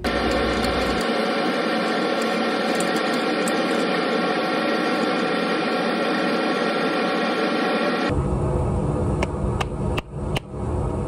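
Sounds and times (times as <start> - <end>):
machinery whir: 0.0 - 10.4.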